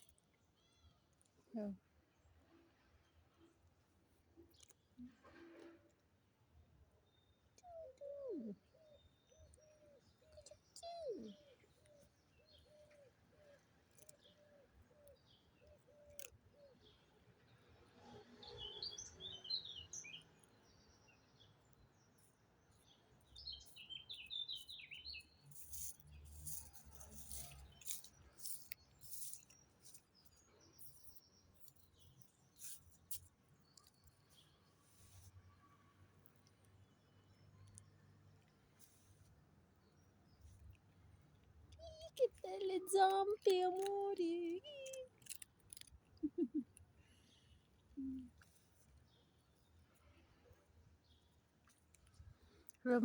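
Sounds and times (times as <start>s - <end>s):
small birds chirping: 7.0s - 17.6s, 18.3s - 53.0s.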